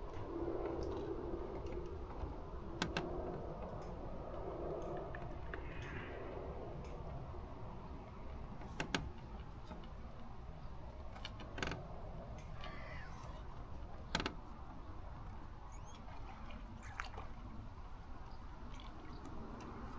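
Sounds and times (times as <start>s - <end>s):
low background rumble: 0.0s - 19.9s.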